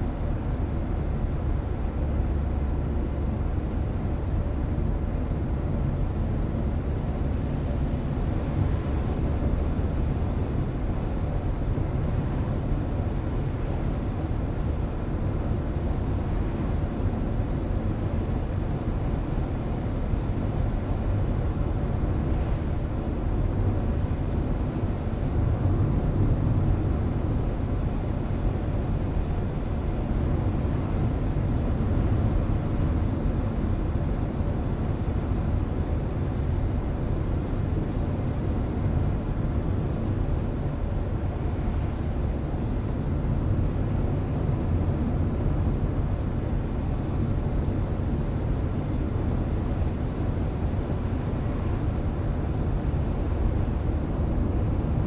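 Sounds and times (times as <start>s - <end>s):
car tyres and engine rumble: 0.2s - 55.0s.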